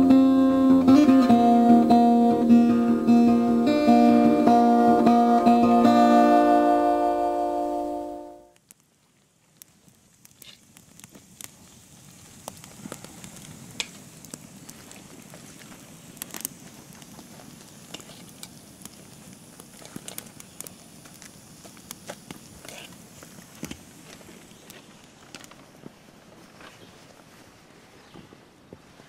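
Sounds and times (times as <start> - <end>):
campfire crackling and popping: 0.0 - 27.4.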